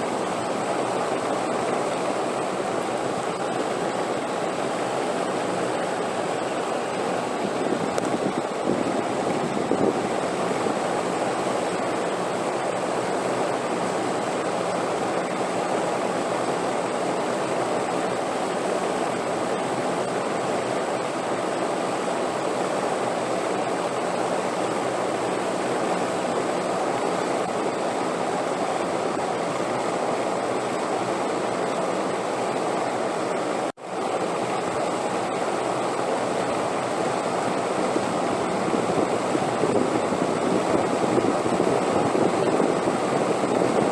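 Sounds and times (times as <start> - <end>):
rushing wind: 0.0 - 23.2, 23.8 - 43.9.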